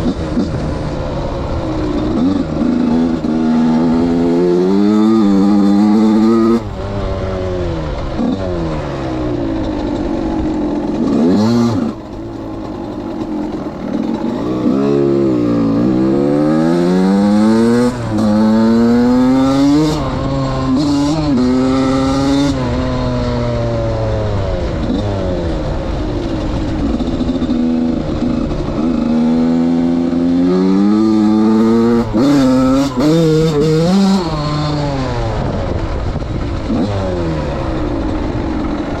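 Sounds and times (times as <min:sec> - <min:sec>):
two-stroke engine revving: 0:00.0 - 0:39.0.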